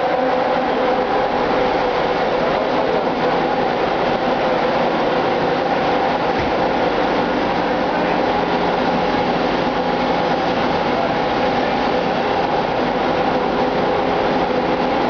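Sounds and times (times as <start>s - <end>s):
engine room machinery din: 0.0s - 15.0s.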